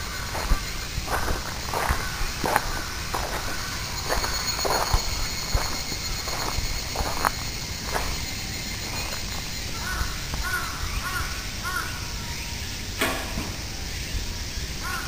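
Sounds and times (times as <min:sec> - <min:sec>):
bird calling: 0:00.0 - 0:12.9
outdoor background: 0:00.0 - 0:15.0.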